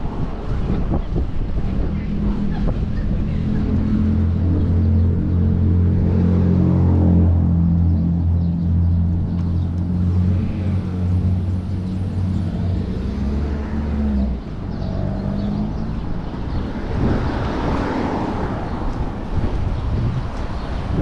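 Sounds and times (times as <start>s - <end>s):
street traffic: 0.0s - 21.0s
vehicle engine humming: 0.0s - 21.0s.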